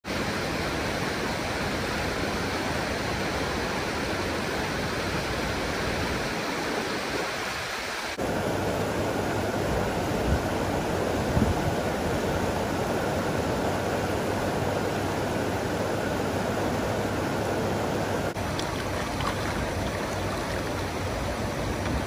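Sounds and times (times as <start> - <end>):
flood water rushing: 0.1 - 22.0
churning standing waves: 0.7 - 22.0.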